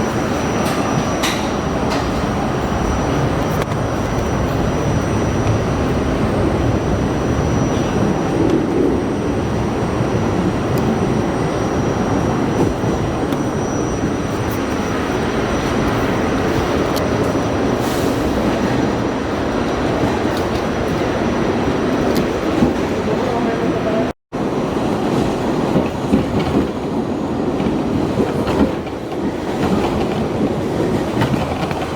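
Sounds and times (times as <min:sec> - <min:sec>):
subway wheels rumbling on rails: 0:00.0 - 0:31.9.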